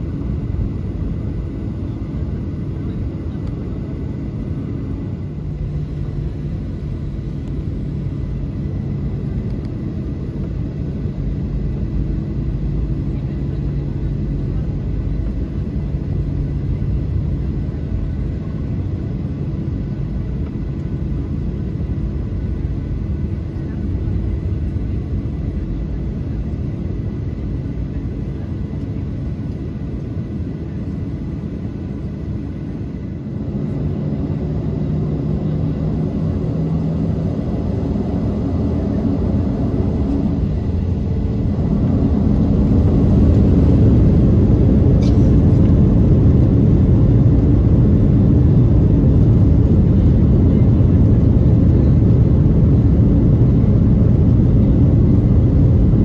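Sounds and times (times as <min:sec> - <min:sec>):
jet engine and airflow roar in cabin: 0:00.0 - 0:56.0.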